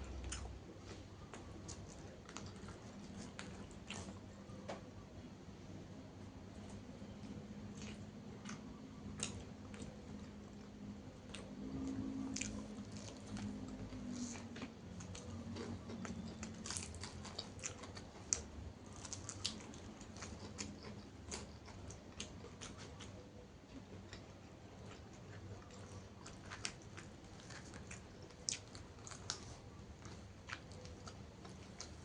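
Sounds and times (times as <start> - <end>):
chewing and crunching food: 0.0 - 4.9, 6.4 - 32.0.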